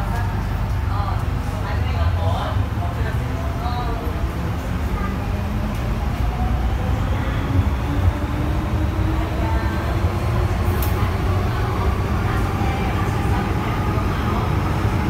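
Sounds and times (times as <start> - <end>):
train rumbling in a tunnel: 0.0 - 15.0.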